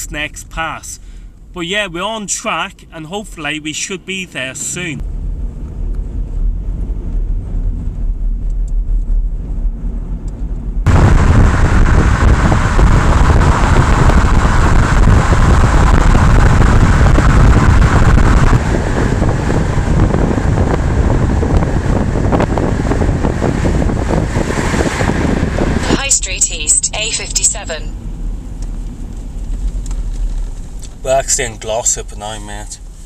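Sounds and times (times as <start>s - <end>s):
road rumble inside car: 0.0s - 33.0s
rush of wind and road noise: 3.5s - 33.0s.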